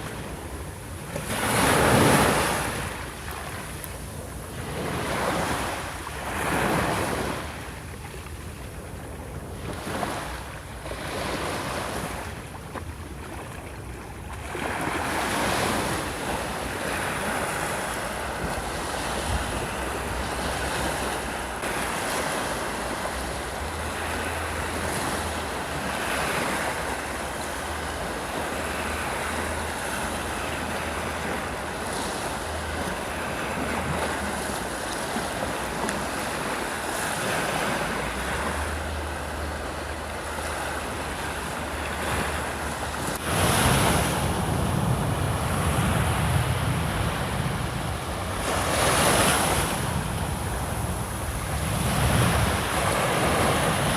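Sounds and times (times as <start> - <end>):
sea waves breaking on beach: 0.0 - 53.9.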